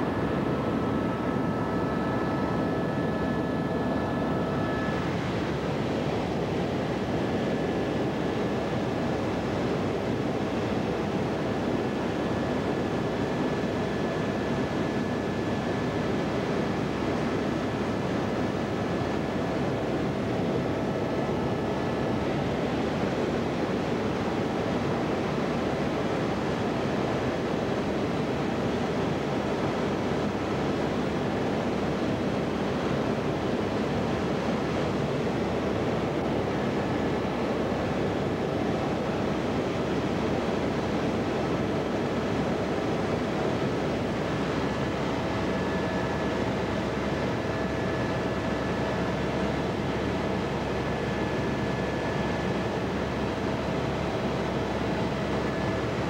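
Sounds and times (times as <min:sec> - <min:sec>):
aircraft engine and wind noise: 0:00.0 - 0:56.0
faint high whine: 0:00.0 - 0:56.0.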